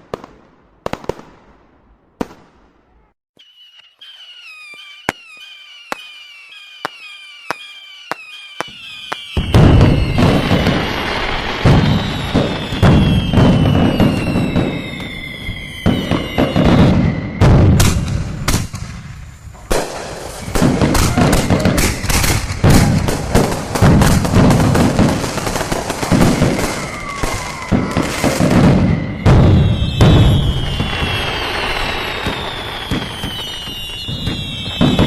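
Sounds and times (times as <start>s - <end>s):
fireworks bangs: 0.0s - 35.0s
falling whistles of fireworks: 2.2s - 35.0s
fireworks crackles: 2.2s - 35.0s.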